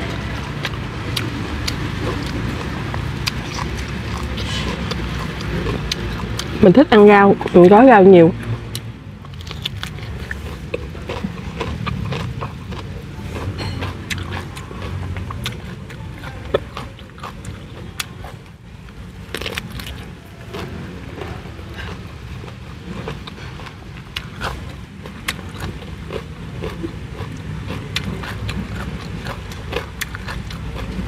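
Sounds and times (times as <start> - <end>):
chewing and crunching: 0.0 - 31.0.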